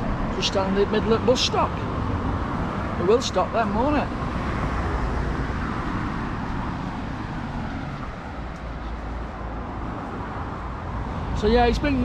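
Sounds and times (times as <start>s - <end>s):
passing vehicles rumbling: 0.0s - 12.0s
road noise: 0.0s - 12.0s.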